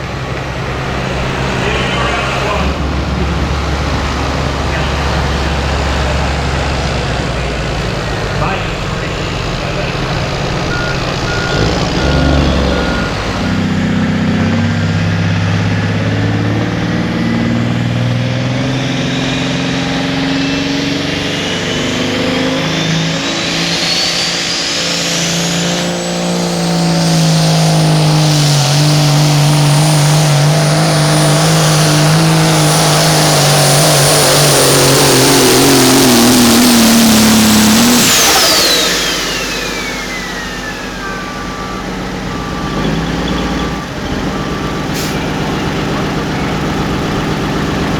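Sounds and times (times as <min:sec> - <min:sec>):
pulling engine at full power: 0:00.0 - 0:47.9
turbo whine: 0:00.0 - 0:47.9.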